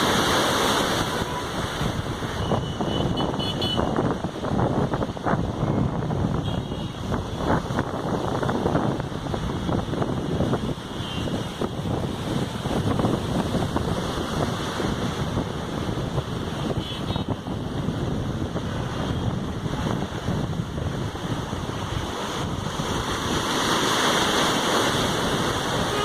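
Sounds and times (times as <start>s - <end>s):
sea waves washing in: 0.0s - 26.0s
wind rumbling on microphone: 0.0s - 26.0s.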